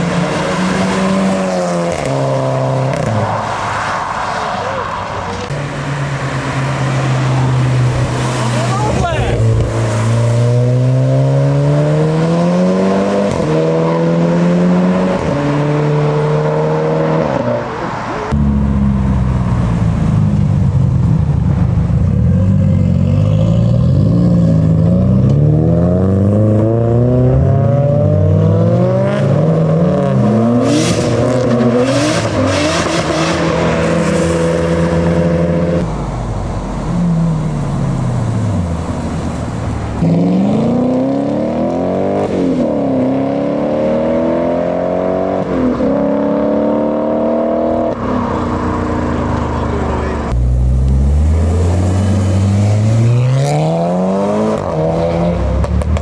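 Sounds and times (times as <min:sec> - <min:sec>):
car engines accelerating hard: 0:00.0 - 0:56.0.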